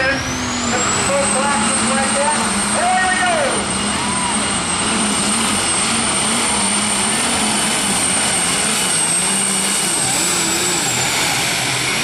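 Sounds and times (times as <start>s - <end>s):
diesel tractor engine at full load: 0.0s - 12.0s
high turbo whine: 0.0s - 12.0s.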